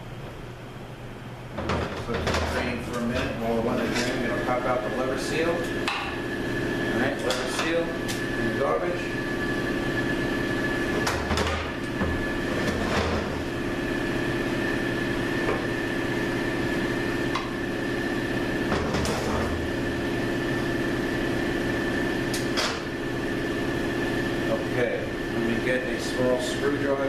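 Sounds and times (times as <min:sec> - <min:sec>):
workshop equipment humming: 0:00.0 - 0:27.0.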